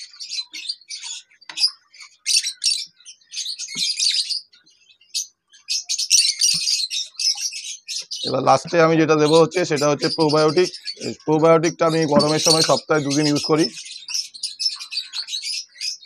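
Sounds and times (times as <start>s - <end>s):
small cage birds chirping: 0.0s - 16.0s.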